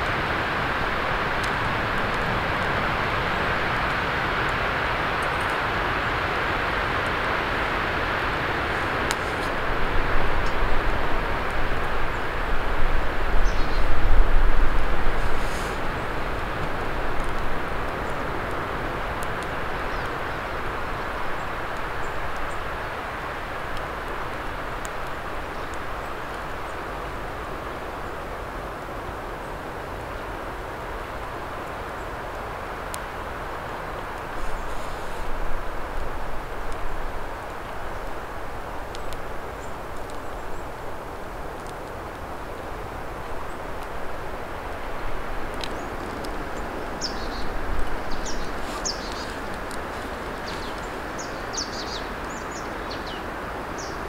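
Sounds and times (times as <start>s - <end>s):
campfire crackling: 0.0s - 54.0s
rushing outdoor background noise: 0.0s - 54.0s.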